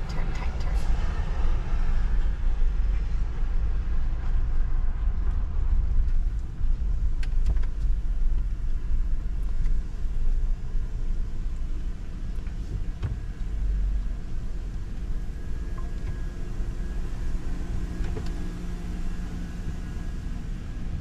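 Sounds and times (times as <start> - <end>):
car cabin rumble: 0.0 - 21.0.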